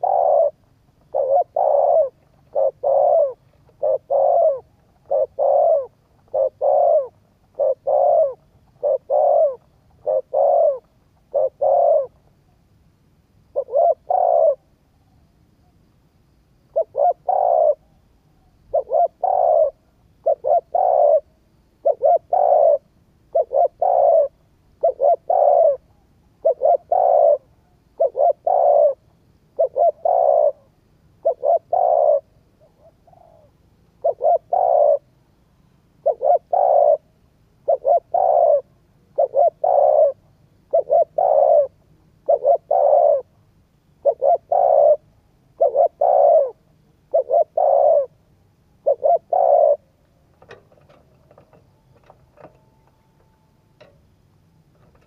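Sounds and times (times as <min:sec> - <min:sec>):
dove cooing: 0:00.0 - 0:12.6, 0:13.5 - 0:15.1, 0:16.7 - 0:35.4, 0:36.0 - 0:54.0, 0:54.7 - 0:55.0.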